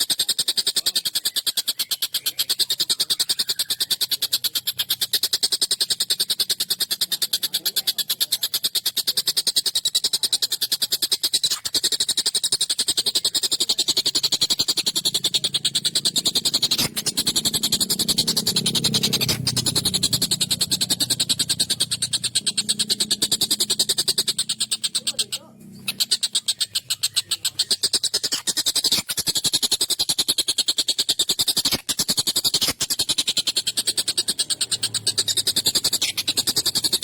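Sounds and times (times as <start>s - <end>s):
bird harsh rapid chattering: 0.0s - 37.0s.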